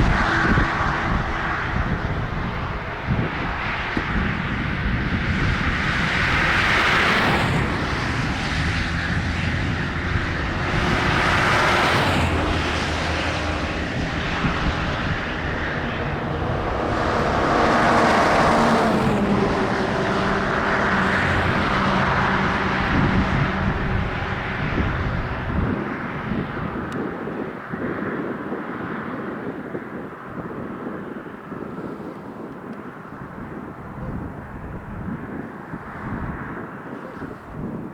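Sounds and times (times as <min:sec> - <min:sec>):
locomotive engines droning: 0:00.0 - 0:37.9.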